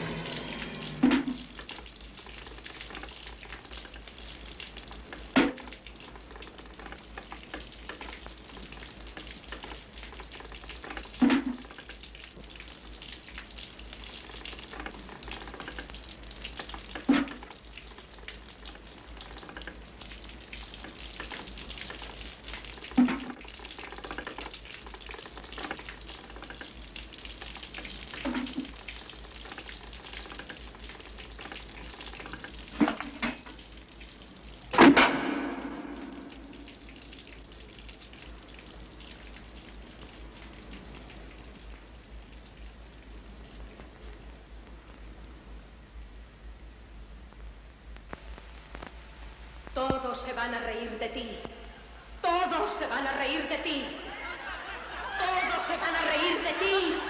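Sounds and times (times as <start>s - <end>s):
low crackling hiss: 0.0s - 57.0s.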